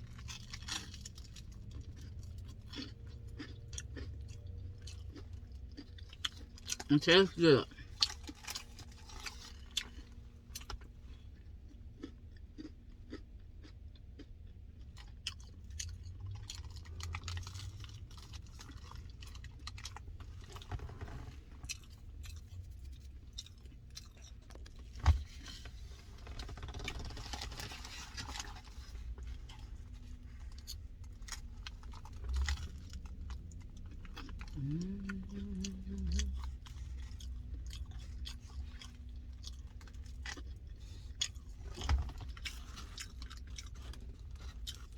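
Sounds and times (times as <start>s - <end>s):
chewing with crunches: 0.0s - 44.9s.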